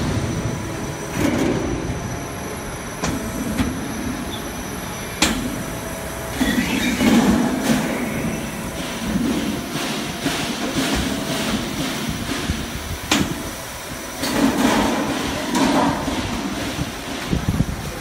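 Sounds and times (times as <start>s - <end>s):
hvac duct machine rumbling: 0.0s - 18.0s.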